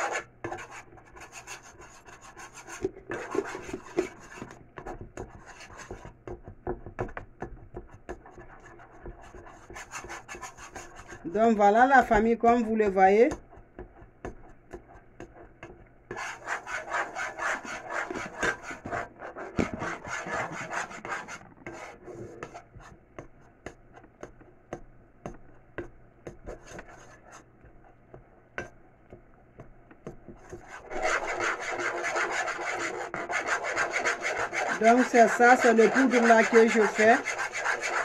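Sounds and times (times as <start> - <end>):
spoon scraping thick paste in pot: 0.0 - 24.6, 25.3 - 28.8, 30.2 - 38.0.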